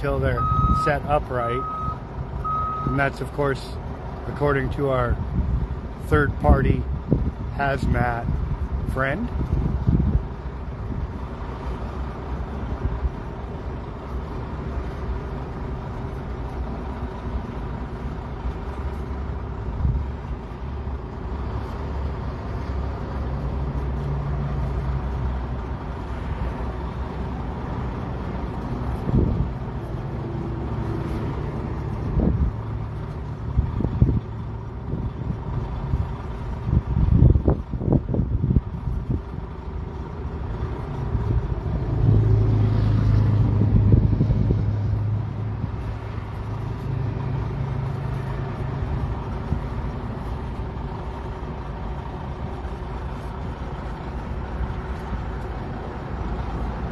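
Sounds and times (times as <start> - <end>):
heavy diesel engines rumbling: 0.0 - 56.9.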